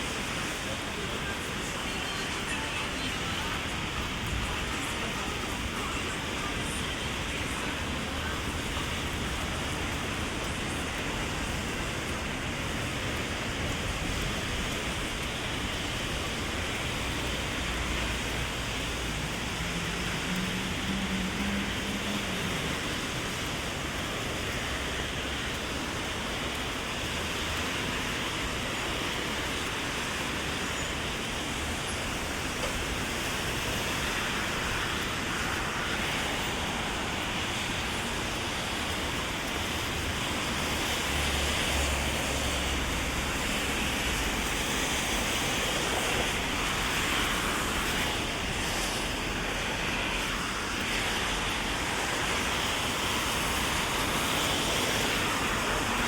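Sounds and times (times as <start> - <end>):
heavy rain on an umbrella: 0.0 - 56.0
low rumble of passing traffic: 0.0 - 56.0.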